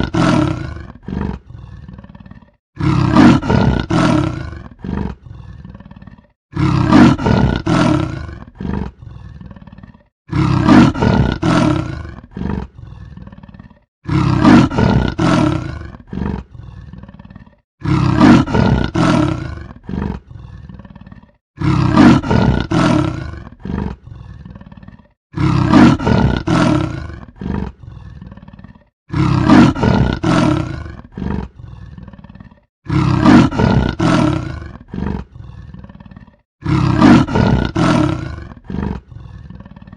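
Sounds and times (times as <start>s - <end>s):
leopard roaring: 0.0s - 39.9s.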